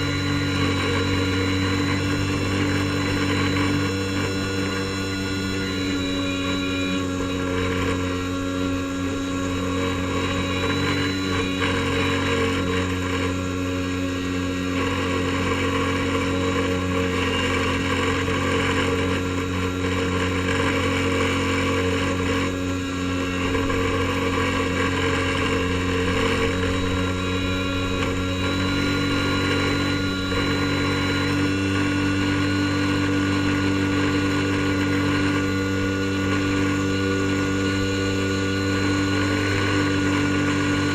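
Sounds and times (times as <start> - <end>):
airboat engine and propeller: 0.0 - 40.9.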